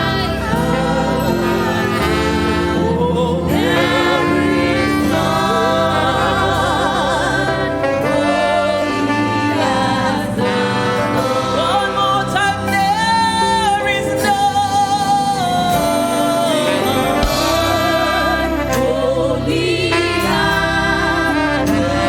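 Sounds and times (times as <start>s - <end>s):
gospel singing: 0.0s - 22.0s
instrumental backing: 0.0s - 22.0s.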